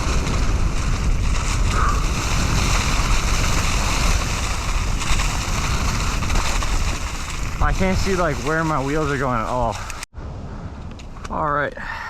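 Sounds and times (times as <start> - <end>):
bike tyres rolling through leaves: 0.0 - 10.1
wind on microphone: 0.0 - 11.3.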